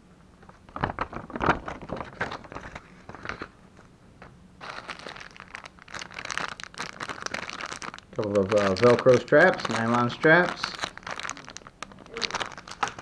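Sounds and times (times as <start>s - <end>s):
plastic bags crinkling: 0.7s - 3.5s, 4.6s - 13.0s.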